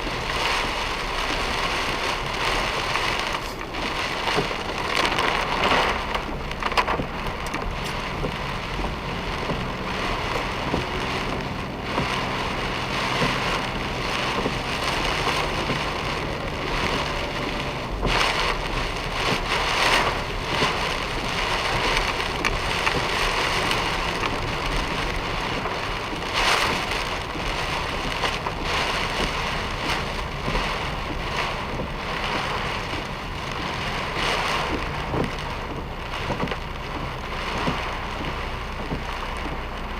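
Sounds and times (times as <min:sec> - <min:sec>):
car running noise: 0:00.0 - 0:39.9
heavy rain pelting a car: 0:00.0 - 0:39.9.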